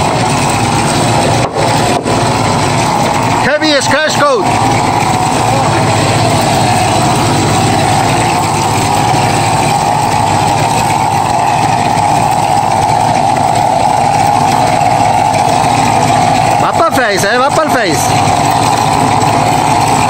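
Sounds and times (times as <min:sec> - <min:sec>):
pump machine drone: 0:00.0 - 0:20.0.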